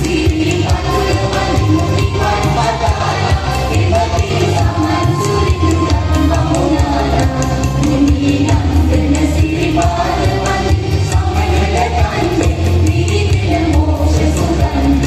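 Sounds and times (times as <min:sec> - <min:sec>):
choir singing devotional song: 0:00.0 - 0:15.0.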